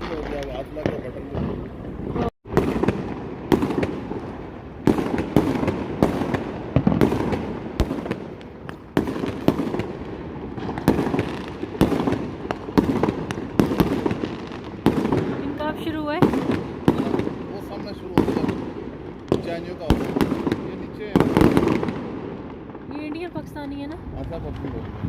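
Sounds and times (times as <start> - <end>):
fireworks rumble: 0.0 - 25.0
sharp firework bangs: 0.0 - 25.0.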